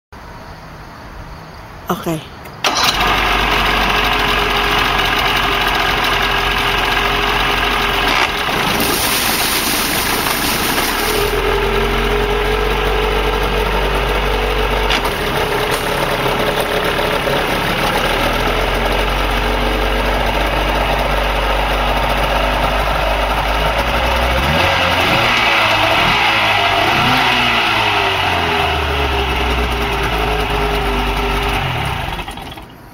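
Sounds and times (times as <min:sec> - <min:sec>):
outboard motor idling: 0:02.6 - 0:24.6, 0:27.6 - 0:32.8.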